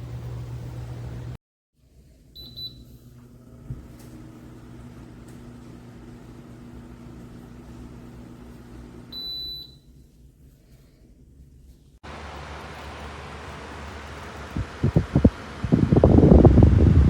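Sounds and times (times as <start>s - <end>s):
fan motor hum: 0.0s - 17.0s.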